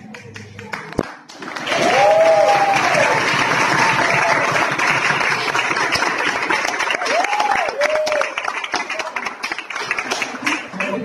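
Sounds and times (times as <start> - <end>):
people applauding: 0.0 - 11.0.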